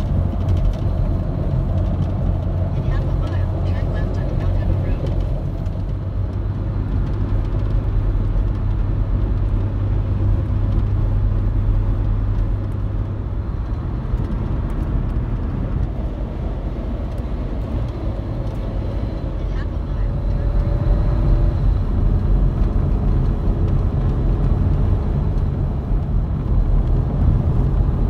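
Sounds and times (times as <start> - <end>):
car road noise rumble: 0.0 - 28.0.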